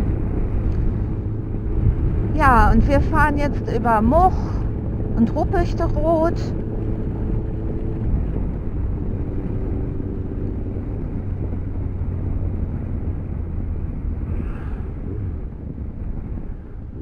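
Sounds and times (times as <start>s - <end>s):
motorcycle engine humming: 0.0s - 17.0s
wind and road noise: 0.0s - 17.0s.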